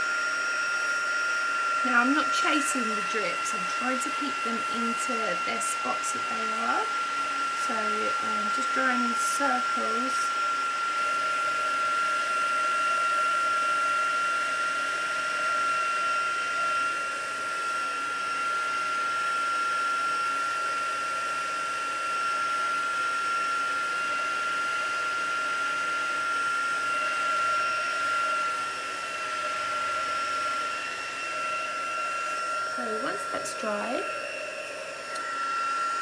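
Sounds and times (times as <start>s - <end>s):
heat tool blowing with motor whine: 0.0s - 36.0s.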